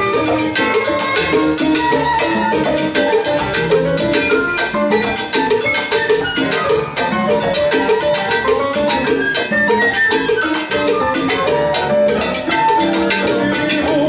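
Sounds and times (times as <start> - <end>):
salsa band playing: 0.0 - 14.0.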